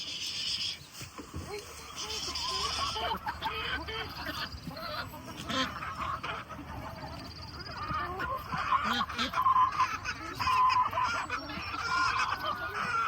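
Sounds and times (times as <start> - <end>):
poultry calling: 0.0 - 13.0.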